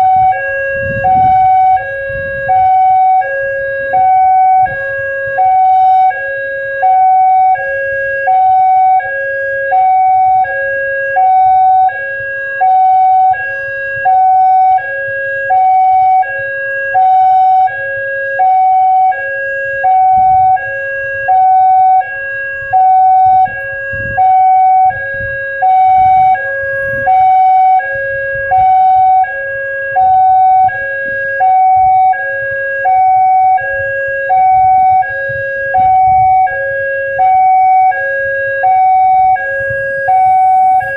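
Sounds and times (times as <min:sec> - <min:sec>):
level crossing two-tone siren: 0:00.0 - 0:40.9.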